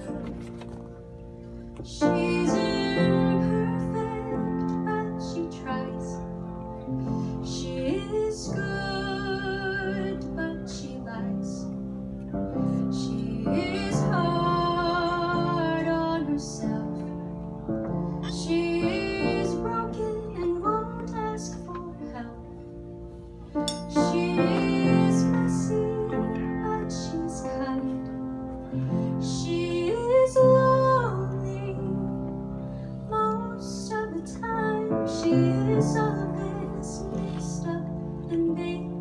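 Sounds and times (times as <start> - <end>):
woman singing: 1.8 - 6.3, 7.4 - 11.8, 12.7 - 17.2, 18.2 - 22.6, 23.8 - 28.2, 29.2 - 32.4, 33.0 - 39.0.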